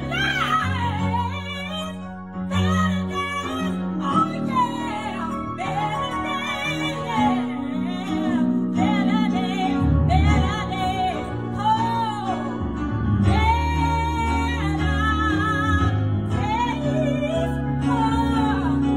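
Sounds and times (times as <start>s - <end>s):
person singing gospel: 0.0s - 18.9s
sustained bass and accompaniment: 0.0s - 18.9s.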